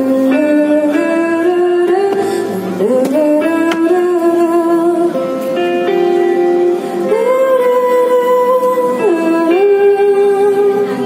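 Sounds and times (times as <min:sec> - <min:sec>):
woman singing: 0:00.0 - 0:05.9, 0:06.6 - 0:11.0.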